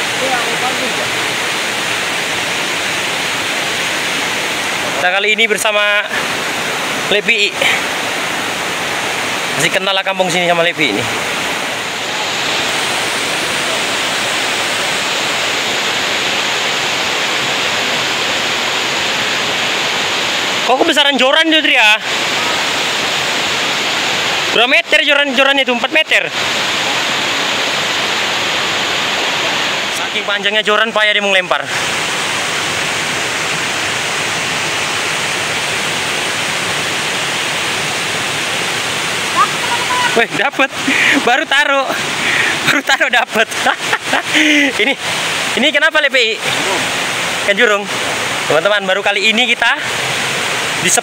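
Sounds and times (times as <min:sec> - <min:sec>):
river rushing over rocks: 0:00.0 - 0:51.0.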